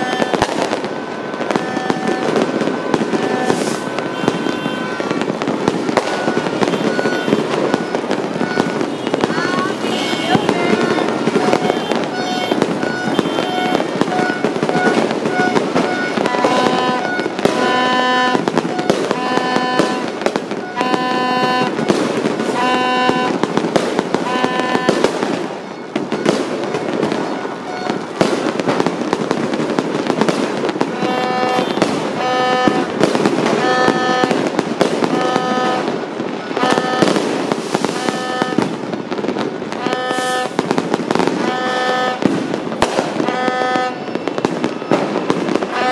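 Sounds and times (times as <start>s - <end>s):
fireworks and firecrackers bangs: 0.0s - 45.9s.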